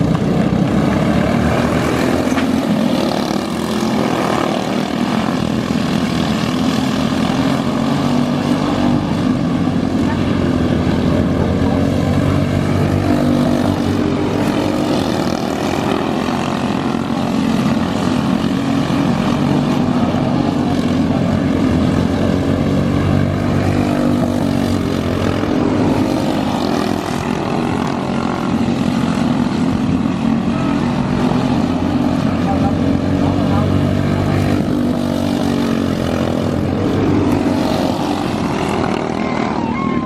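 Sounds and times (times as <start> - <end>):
kart engine running hard: 0.0 - 40.0.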